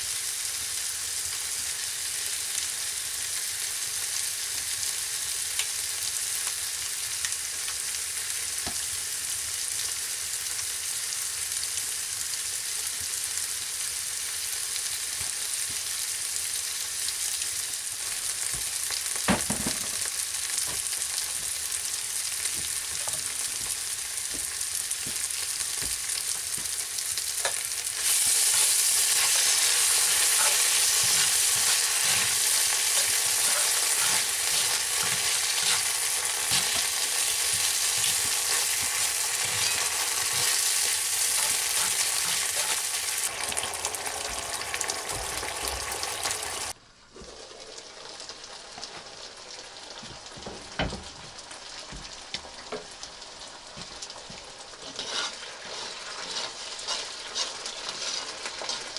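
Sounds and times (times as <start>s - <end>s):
food sizzling in hot oil: 0.0s - 58.9s.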